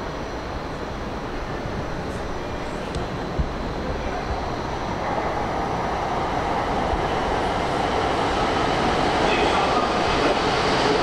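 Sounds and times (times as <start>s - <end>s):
train wheels rushing: 1.6s - 11.0s.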